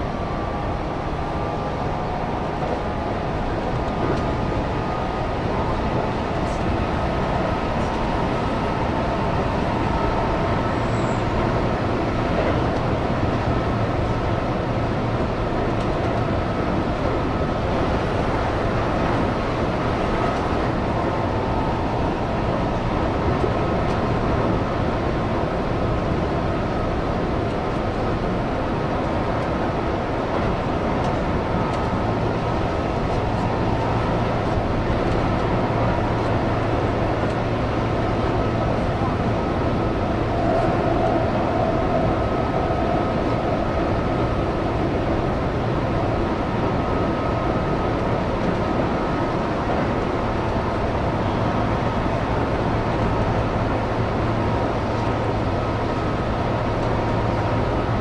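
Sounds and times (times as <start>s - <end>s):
electric train running: 0.0s - 58.0s
faint steady whine: 0.0s - 58.0s.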